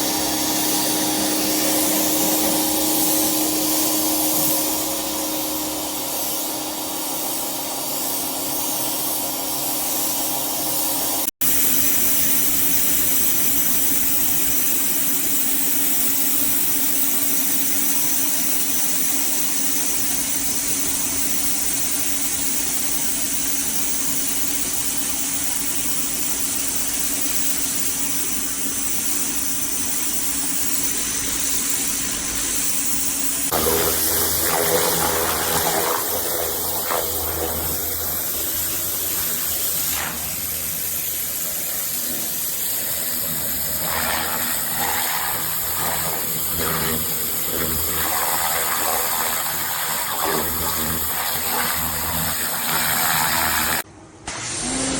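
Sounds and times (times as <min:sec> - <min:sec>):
pressure washer motor drone: 0:00.0 - 0:53.8
spraying water hiss: 0:00.0 - 0:53.8.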